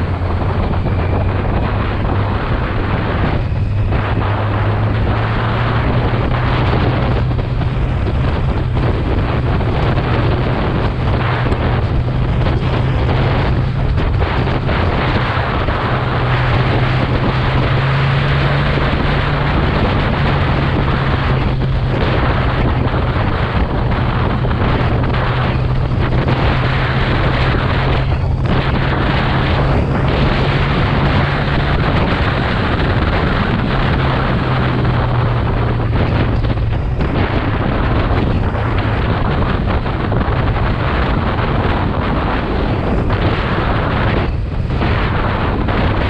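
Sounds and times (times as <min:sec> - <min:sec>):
motorcycle engine droning: 0:00.0 - 0:46.0
wind rushing over microphone: 0:00.0 - 0:46.0.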